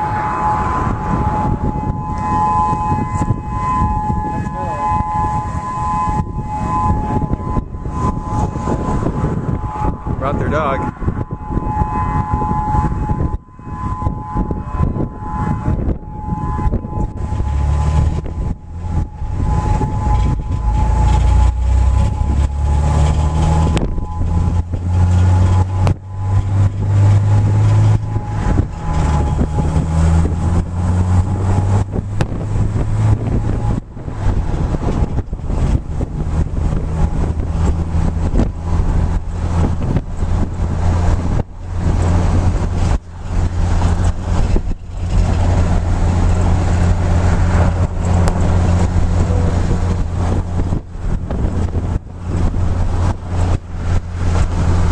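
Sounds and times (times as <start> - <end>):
faint tornado siren: 0.0 - 54.9
wind gusts buffeting microphone: 0.0 - 54.9.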